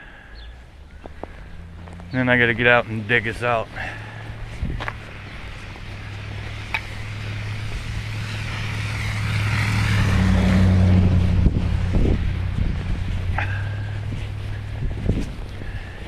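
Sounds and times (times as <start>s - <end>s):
motor vehicle passing by: 0.4s - 16.0s.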